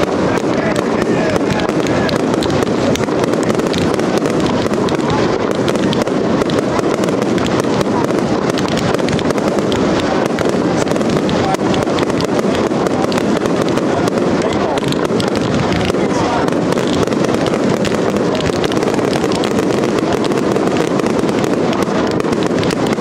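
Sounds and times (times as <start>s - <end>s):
fireworks barrage: 0.0s - 23.0s.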